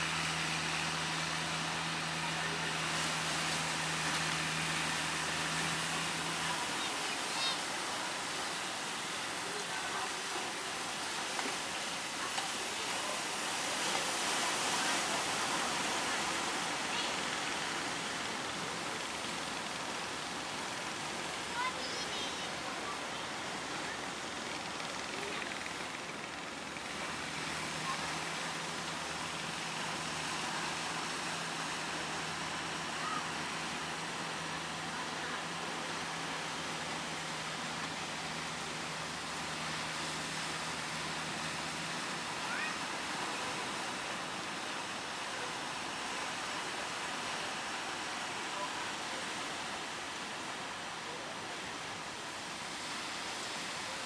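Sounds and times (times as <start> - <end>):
low engine hum: 0.0 - 54.0
surf and breaking waves: 0.0 - 54.0.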